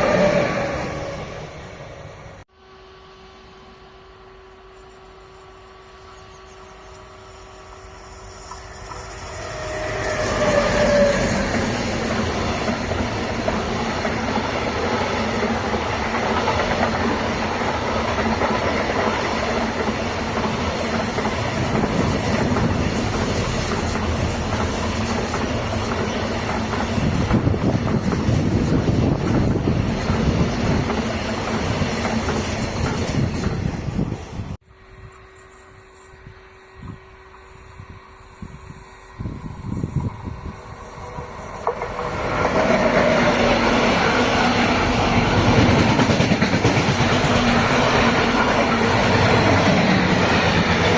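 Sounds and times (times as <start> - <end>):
train passing close by: 0.0 - 50.9.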